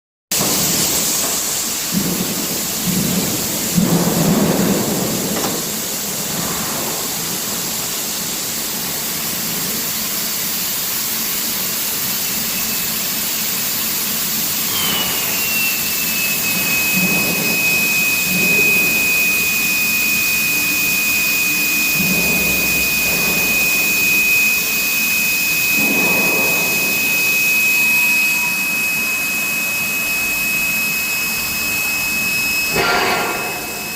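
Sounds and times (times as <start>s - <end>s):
factory noise: 0.3s - 33.9s
high steady whine: 0.3s - 33.9s
machine running: 0.3s - 33.9s.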